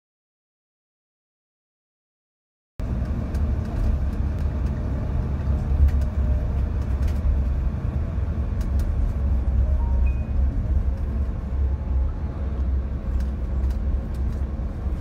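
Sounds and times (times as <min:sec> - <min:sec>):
vehicle engine and tyre noise: 0:02.8 - 0:15.0.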